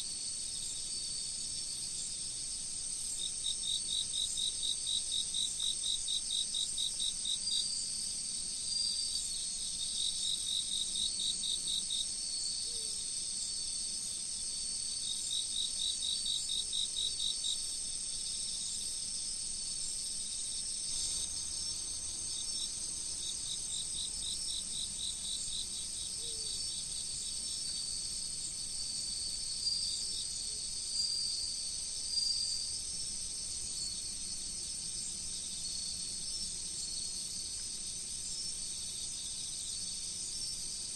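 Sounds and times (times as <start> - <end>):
crickets trilling: 3.1 - 40.9.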